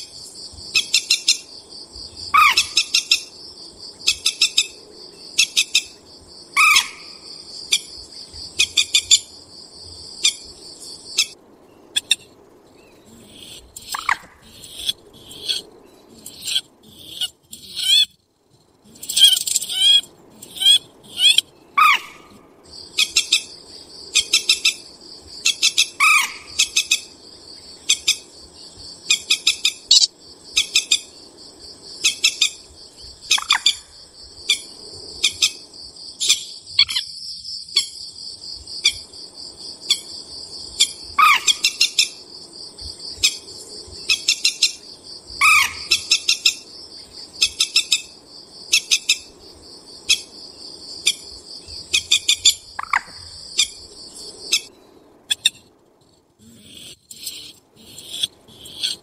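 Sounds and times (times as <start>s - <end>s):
high insect trill: 0.0s - 59.0s.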